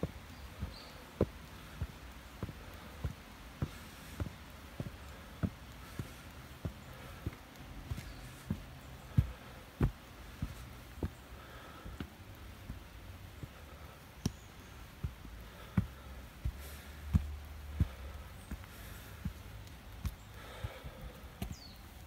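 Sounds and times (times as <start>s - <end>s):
footsteps on earth steps: 0.0s - 22.0s.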